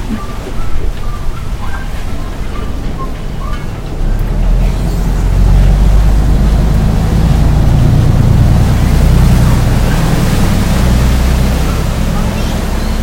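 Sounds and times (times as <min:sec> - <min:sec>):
boat diesel engine droning: 0:00.0 - 0:13.0
water churning: 0:00.0 - 0:13.0.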